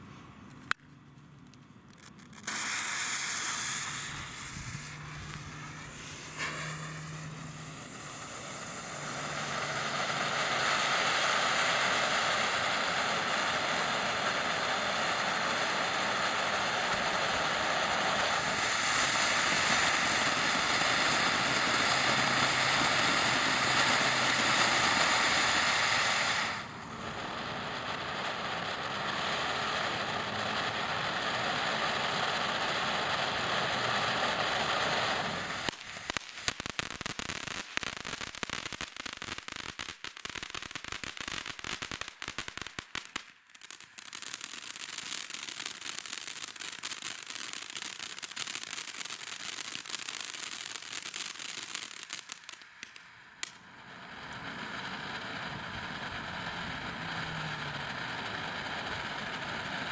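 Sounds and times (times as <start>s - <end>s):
firework fountain hissing: 2.1s - 59.9s.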